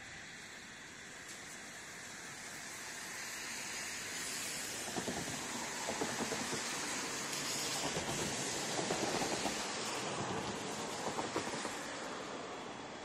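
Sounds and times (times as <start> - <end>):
train wheels rushing on rails: 0.2 - 13.0.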